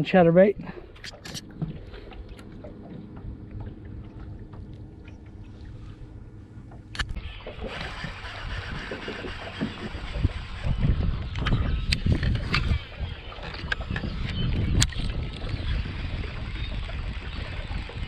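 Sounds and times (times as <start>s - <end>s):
water lapping against boat hull: 0.0s - 18.0s
low rumble: 0.6s - 17.2s.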